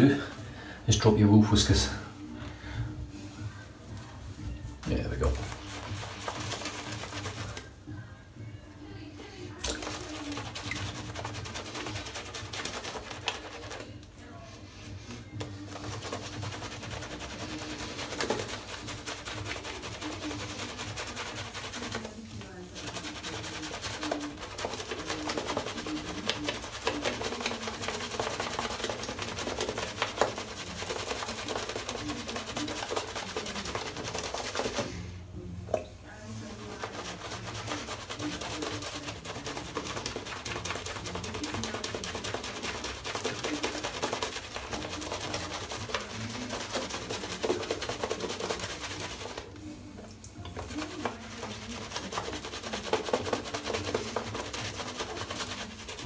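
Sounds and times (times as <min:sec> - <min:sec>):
shaving brush swishing lather: 0:04.3 - 0:08.1, 0:09.2 - 0:35.2, 0:36.1 - 0:56.0.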